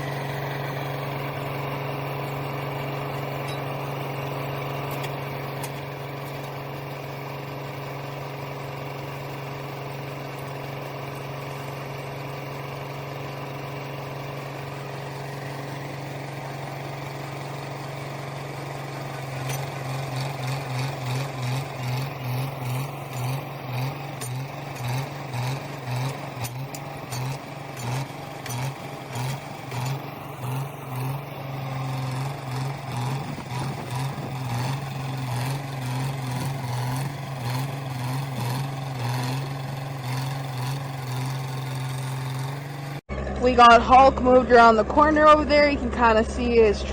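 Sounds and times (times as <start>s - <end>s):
heavy machine engine pulsing: 0.0s - 46.9s.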